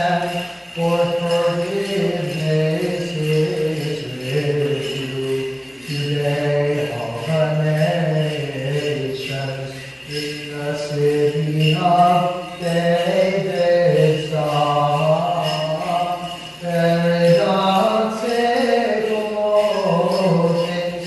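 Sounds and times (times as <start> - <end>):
man singing a chant: 0.0 - 21.0.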